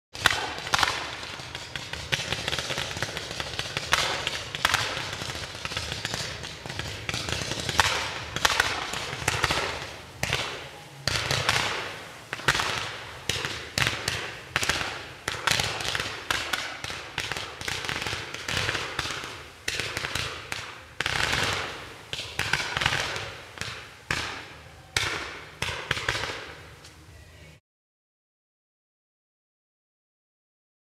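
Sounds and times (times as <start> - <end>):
fireworks shots: 0.2 - 26.8.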